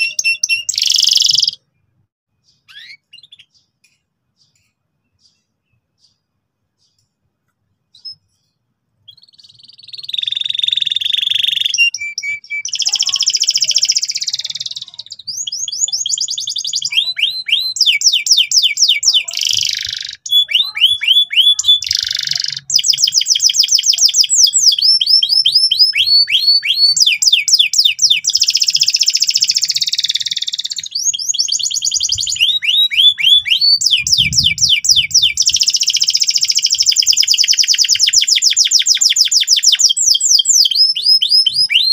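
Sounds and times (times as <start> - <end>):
canary singing trills: 0.0 - 7.2, 7.8 - 41.9.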